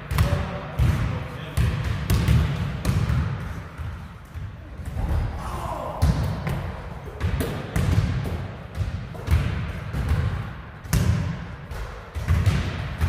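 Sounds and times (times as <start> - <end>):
basketball bouncing on hard court: 0.0 - 5.3, 6.0 - 13.0.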